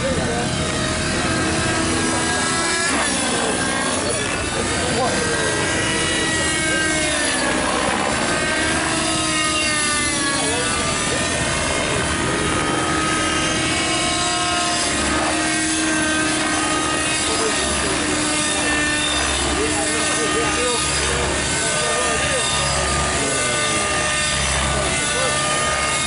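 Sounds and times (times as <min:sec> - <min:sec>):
rc helicopter engine and rotors: 0:00.0 - 0:26.0.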